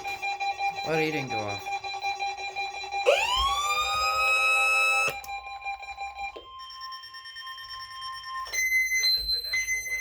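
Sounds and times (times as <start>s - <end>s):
rising alarm tone: 0.0s - 10.0s
steady radio warning alarm tone: 0.0s - 10.0s.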